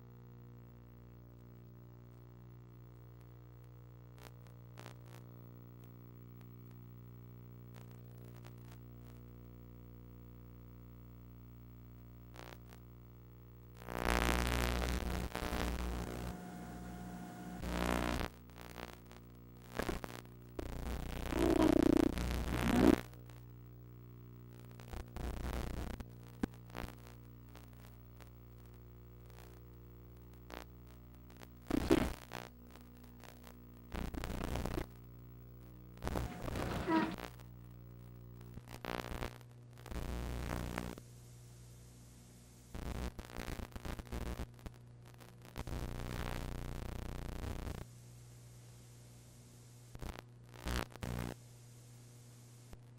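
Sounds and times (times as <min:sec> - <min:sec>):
steady electrical hum: 0:00.0 - 0:43.6
tape hiss and crackle: 0:00.0 - 0:52.9.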